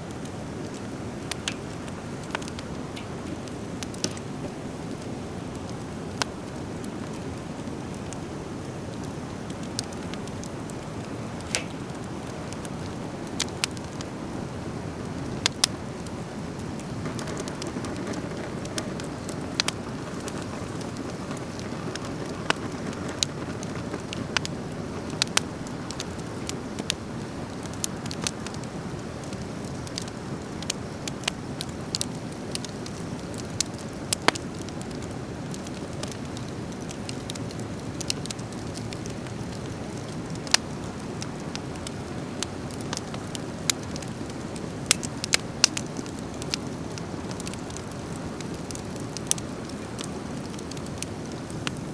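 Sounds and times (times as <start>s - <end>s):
fire crackling and popping: 0.0s - 51.9s.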